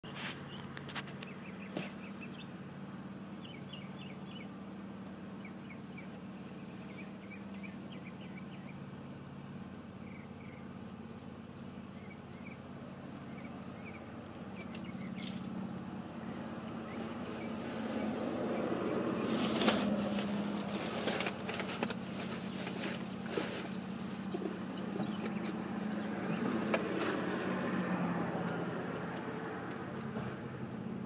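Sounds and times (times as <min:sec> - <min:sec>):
engine idling: 0:00.1 - 0:31.0
small birds chirping: 0:00.2 - 0:27.4.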